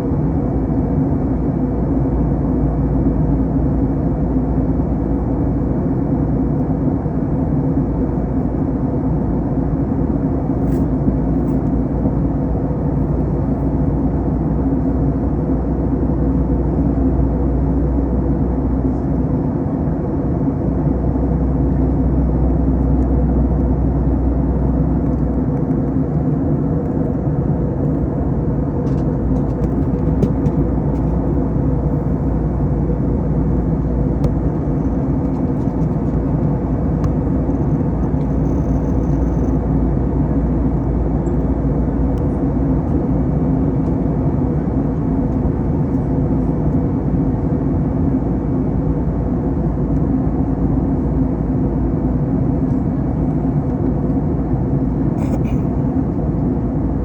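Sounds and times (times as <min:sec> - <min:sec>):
airplane cabin drone: 0:00.0 - 0:57.0
low steady hum: 0:00.0 - 0:57.0.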